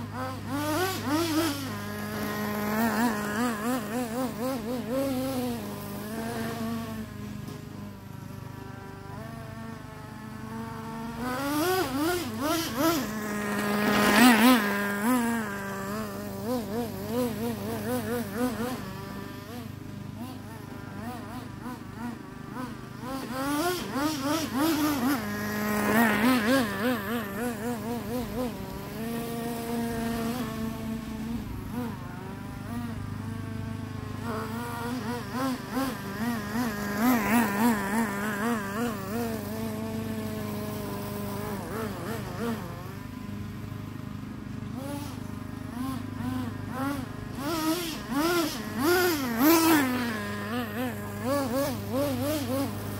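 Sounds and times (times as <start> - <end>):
rc truck nitro engine buzzing: 0.0 - 52.9.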